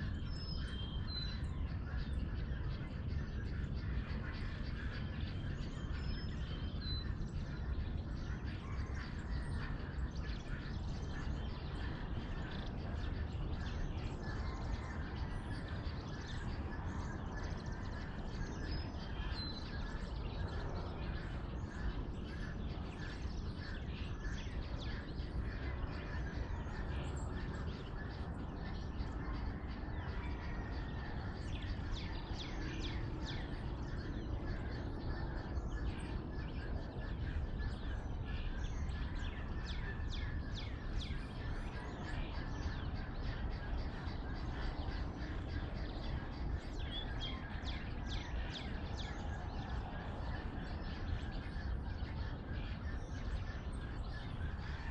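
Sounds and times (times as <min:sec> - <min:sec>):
birds chirping and calling: 0:00.0 - 0:54.9.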